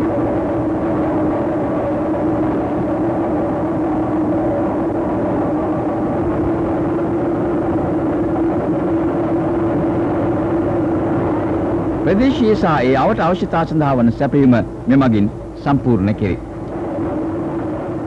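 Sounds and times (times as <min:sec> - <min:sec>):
constant machine hum: 0:00.0 - 0:18.0
mill machinery droning: 0:00.0 - 0:18.0.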